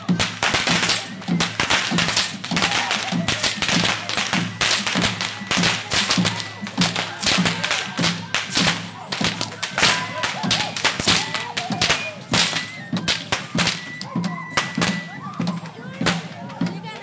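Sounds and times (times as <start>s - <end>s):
whips cracking: 0.2s - 14.0s.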